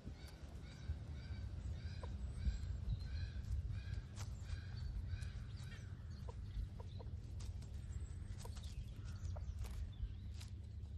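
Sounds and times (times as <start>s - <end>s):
low steady rumble: 0.0s - 10.9s.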